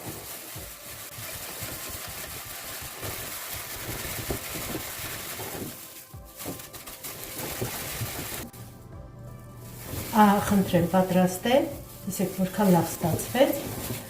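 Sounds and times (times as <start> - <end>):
hands creaming sugar into butter: 0.0 - 8.5, 9.7 - 14.0.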